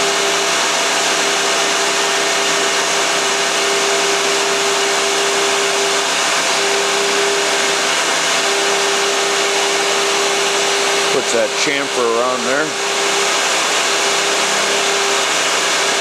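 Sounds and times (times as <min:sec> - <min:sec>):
coolant hissing: 0:00.0 - 0:16.0
milling spindle whirring: 0:00.0 - 0:16.0.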